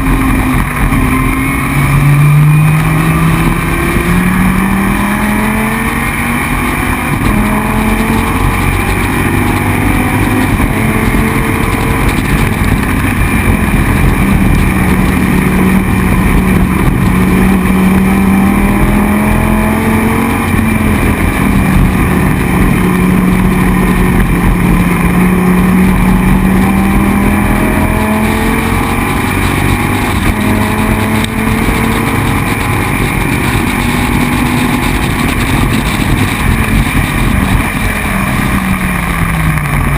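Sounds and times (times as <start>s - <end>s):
race car engine running hard: 0.0s - 39.9s
wind and road noise: 0.0s - 39.9s.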